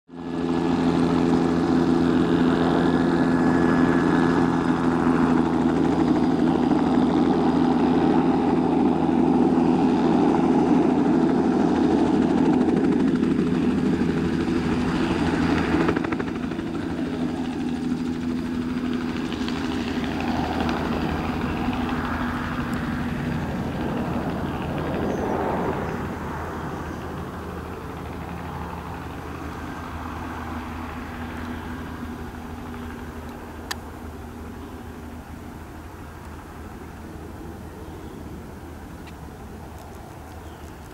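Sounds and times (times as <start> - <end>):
helicopter engine and rotor drone: 0.1 - 40.9.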